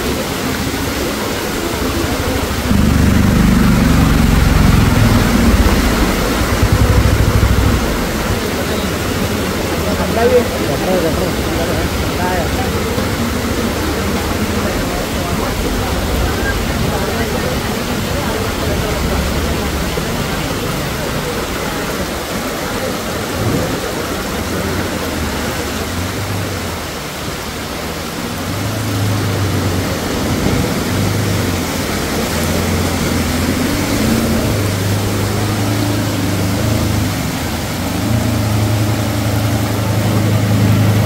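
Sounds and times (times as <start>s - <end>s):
floodwater rushing: 0.0s - 41.0s
heavy rain: 0.0s - 41.0s
truck engine running: 0.0s - 41.0s.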